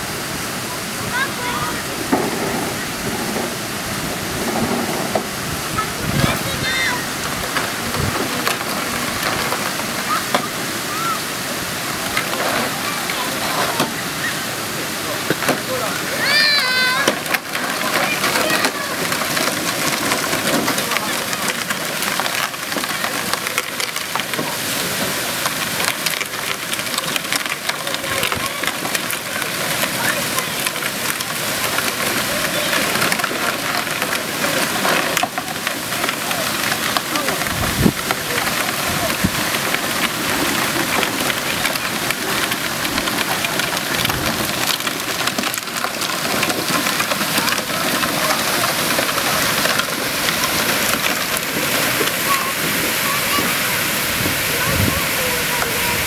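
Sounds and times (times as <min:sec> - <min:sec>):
fountain water rushing: 0:00.0 - 0:56.0
plastic wheels rolling over gravel: 0:00.0 - 0:56.0.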